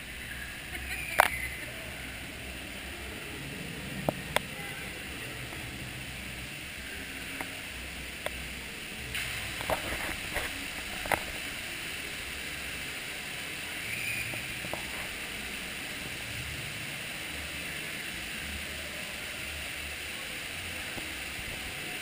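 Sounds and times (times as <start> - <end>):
bright hiss: 0.0 - 22.0
water hiss and machinery rumble: 0.0 - 22.0.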